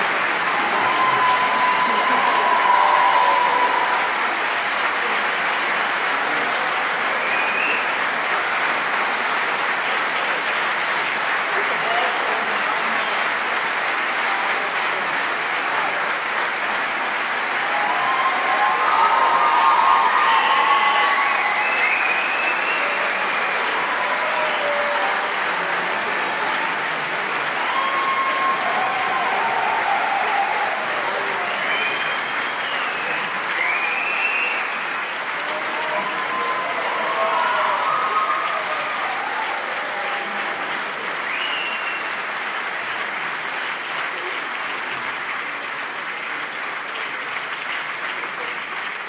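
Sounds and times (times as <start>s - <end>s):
audience applauding: 0.0s - 49.0s.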